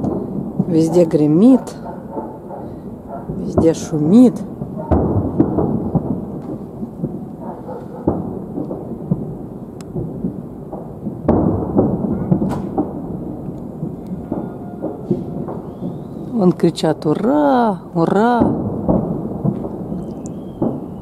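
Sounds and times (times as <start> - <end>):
fireworks bangs: 0.0 - 21.0
fireworks booming: 0.0 - 21.0.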